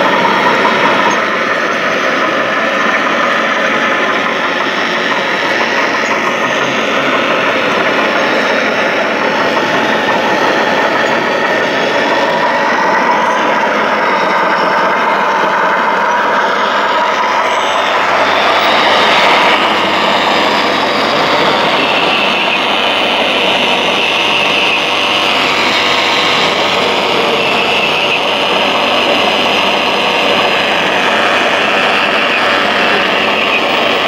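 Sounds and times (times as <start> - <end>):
higher motor whine: 0.0 - 34.0
toy dozer whine and rattle: 0.0 - 34.0.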